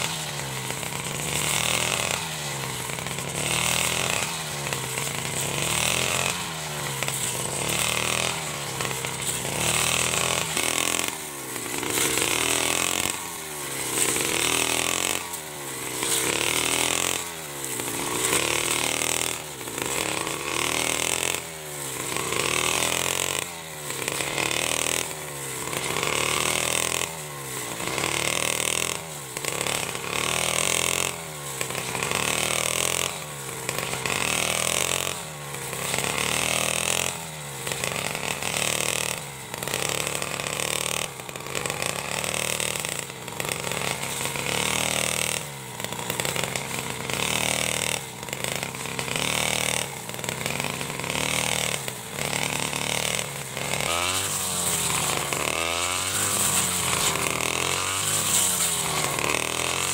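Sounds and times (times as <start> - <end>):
brush cutter engine revving: 0.0 - 59.9.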